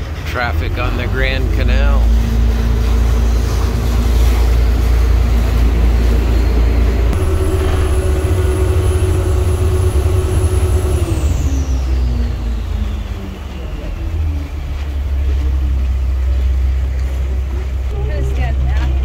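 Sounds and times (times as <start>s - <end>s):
boat engine rumbling: 0.0s - 19.0s
thin high engine whine: 0.8s - 17.9s.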